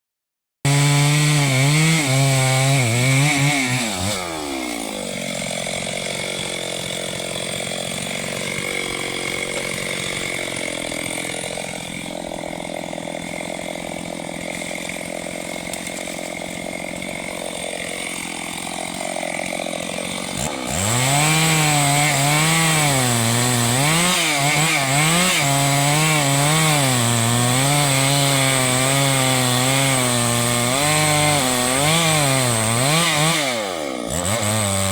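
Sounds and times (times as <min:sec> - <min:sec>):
chainsaw cutting wood: 0:00.7 - 0:34.9.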